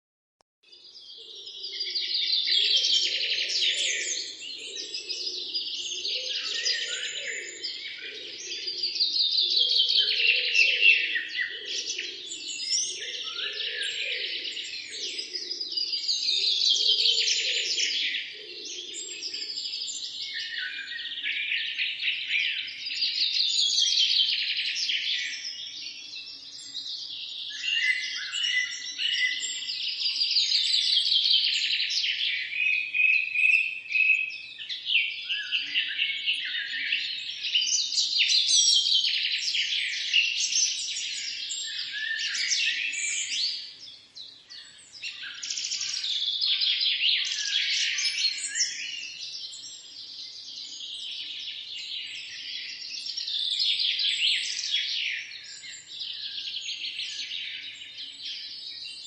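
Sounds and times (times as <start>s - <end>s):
songbirds chirping and trilling: 0.7s - 59.0s.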